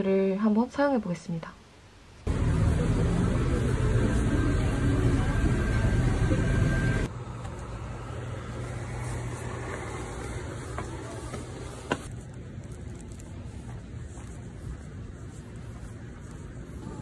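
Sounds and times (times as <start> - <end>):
street noise: 2.2 - 17.0
vehicle engine hum: 2.3 - 17.0.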